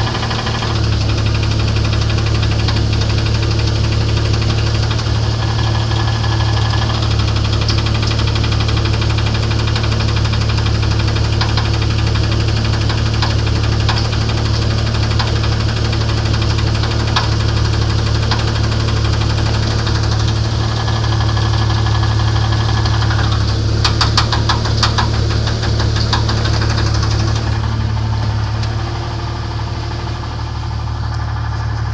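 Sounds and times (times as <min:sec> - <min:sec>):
car engine knocking: 0:00.0 - 0:31.9.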